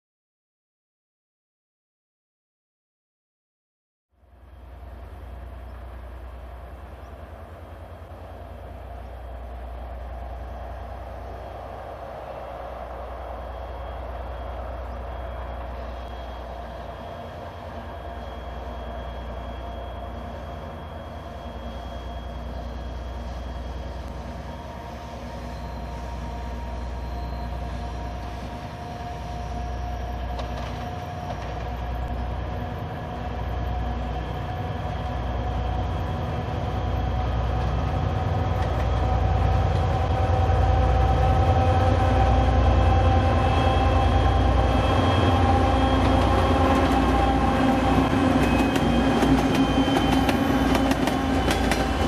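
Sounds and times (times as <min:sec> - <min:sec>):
diesel locomotive engines running: 0:04.2 - 0:52.0.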